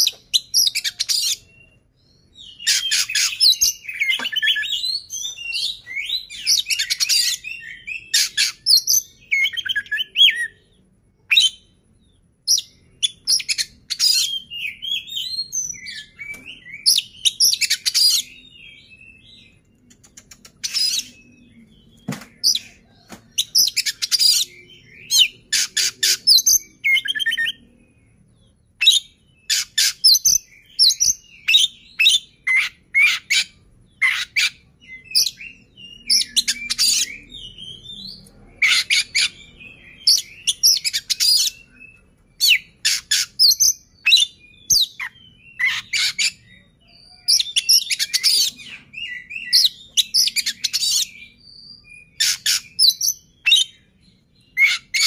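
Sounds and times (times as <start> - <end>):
bird singing whistles and trills: 0.0 - 55.0.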